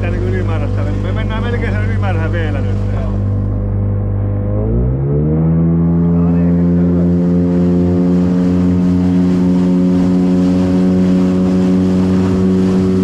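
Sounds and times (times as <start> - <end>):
motorboat engine running: 0.0 - 13.0
water rushing along hull: 0.0 - 13.0.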